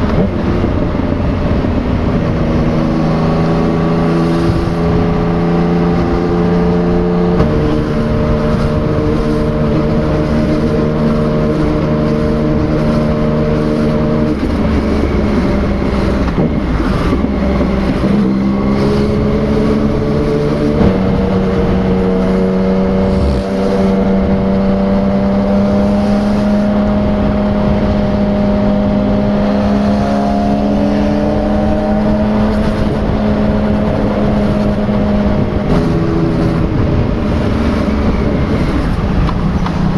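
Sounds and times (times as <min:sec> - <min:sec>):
motorcycle engine drone: 0:00.0 - 0:39.9
rushing noise: 0:00.0 - 0:39.9.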